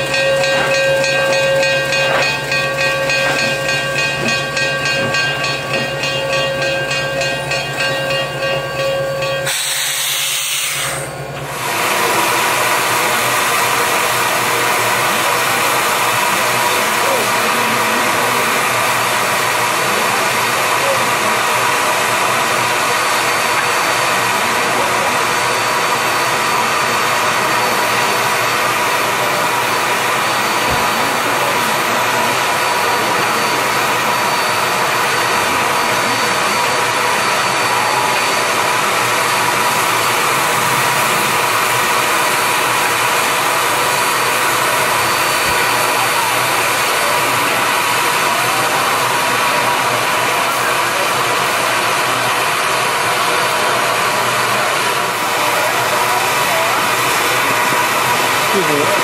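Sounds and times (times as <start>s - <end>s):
steam hissing from locomotive: 9.3s - 59.0s.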